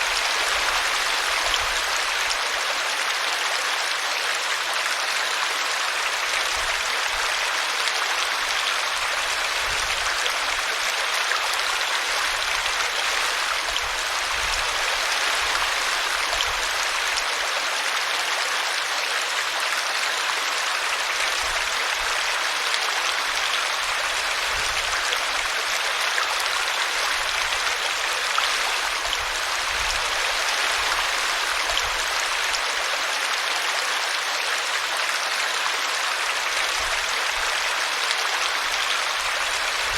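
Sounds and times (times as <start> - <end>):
brook water rushing: 0.0 - 39.9.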